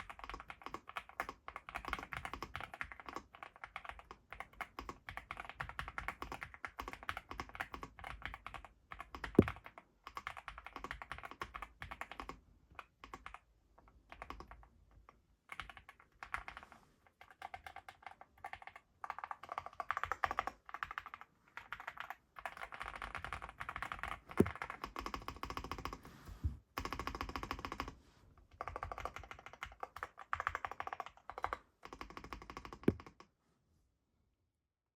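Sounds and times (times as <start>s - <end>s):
typing on mechanical keyboard: 0.0s - 26.0s, 28.5s - 33.3s.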